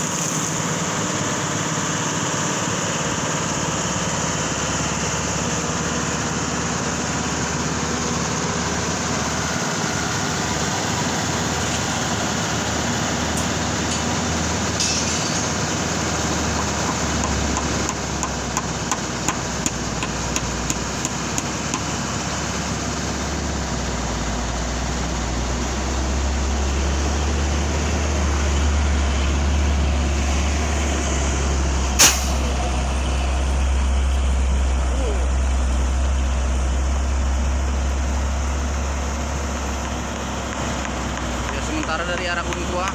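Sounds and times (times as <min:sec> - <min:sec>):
deep engine rumble: 0:00.0 - 0:42.9
heavy vehicle engines running: 0:00.0 - 0:42.9.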